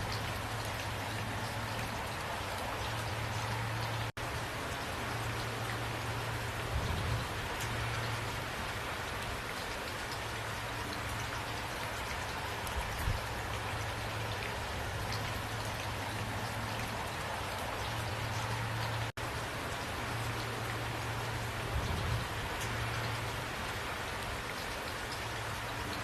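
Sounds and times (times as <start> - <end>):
raindrops ticking on a surface: 0.0 - 26.0
steady rain falling: 0.0 - 26.0.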